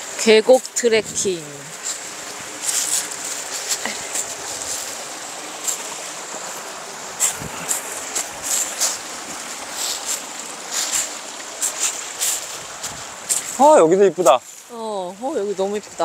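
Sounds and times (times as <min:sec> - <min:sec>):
stream running over rocks: 0:00.0 - 0:16.0
footsteps on loose stones: 0:01.6 - 0:14.7.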